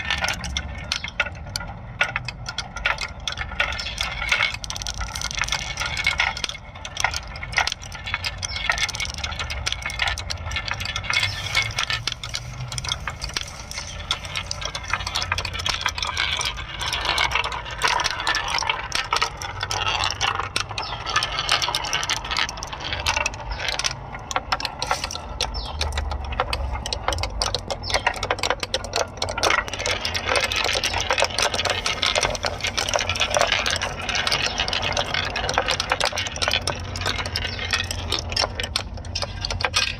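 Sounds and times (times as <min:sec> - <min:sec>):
marbles rolling and clacking: 0:00.0 - 0:39.9.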